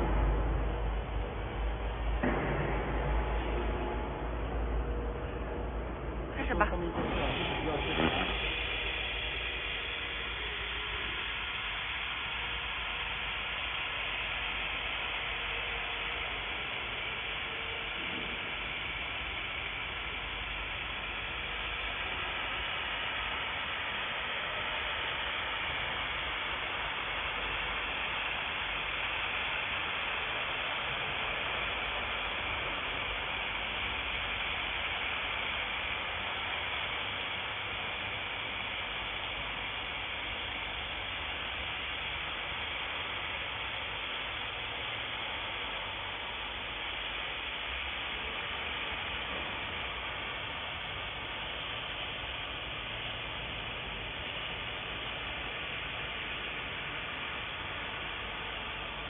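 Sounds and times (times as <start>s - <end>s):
laser welding machine hiss: 5.5s - 59.0s.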